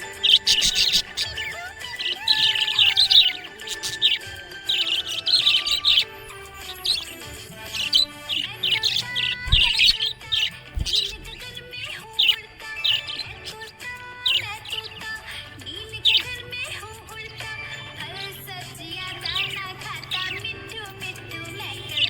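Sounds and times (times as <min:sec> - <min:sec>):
background music: 0:00.0 - 0:22.0
budgerigars chirping: 0:00.0 - 0:22.0.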